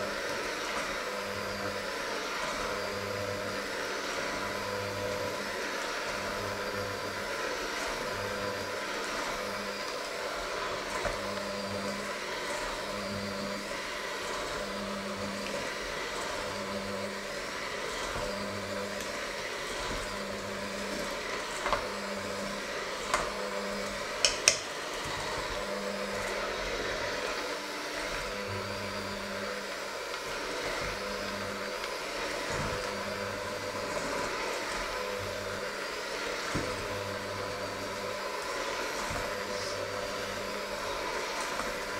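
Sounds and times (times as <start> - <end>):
electric hand mixer running: 0.0 - 41.9.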